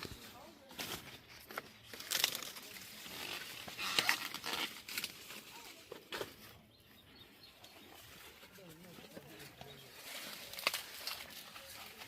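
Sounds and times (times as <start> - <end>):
corn husks rustling and crackling: 0.0 - 12.0.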